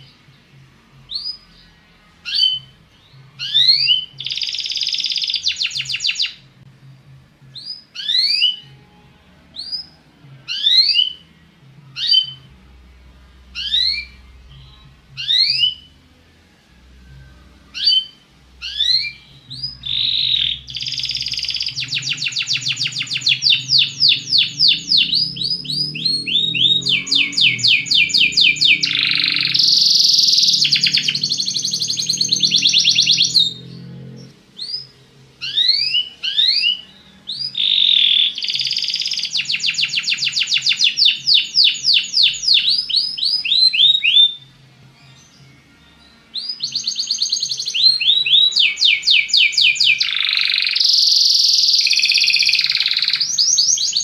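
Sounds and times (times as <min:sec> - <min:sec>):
canary singing trills: 0:00.0 - 0:06.6, 0:07.4 - 0:54.0.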